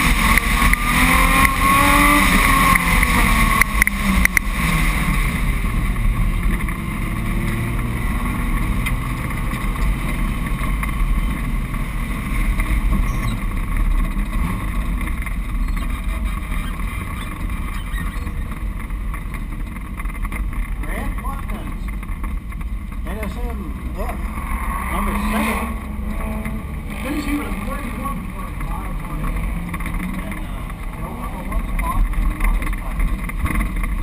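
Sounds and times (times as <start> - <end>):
car engine revving down: 0.0 - 34.0
road and wind noise: 0.0 - 34.0.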